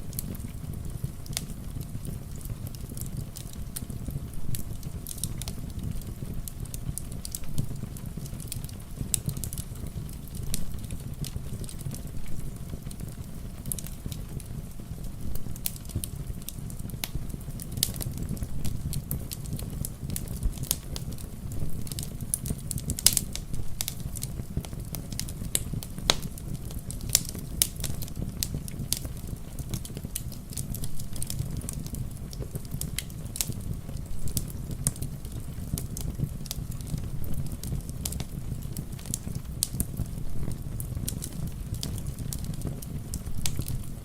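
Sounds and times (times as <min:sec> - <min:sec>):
low rumble of fire: 0:00.0 - 0:44.0
rain pattering: 0:00.0 - 0:44.0
wood fire crackling: 0:00.0 - 0:44.0.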